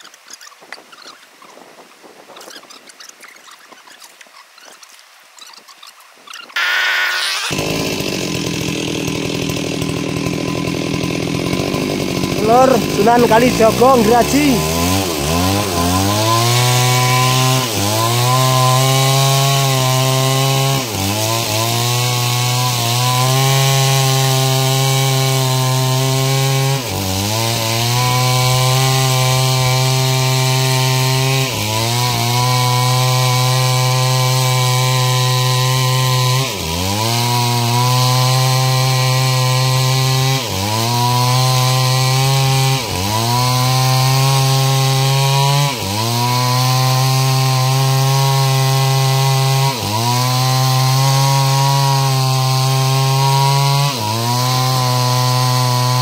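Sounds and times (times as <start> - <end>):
chainsaw sawing through log: 0.0 - 56.0.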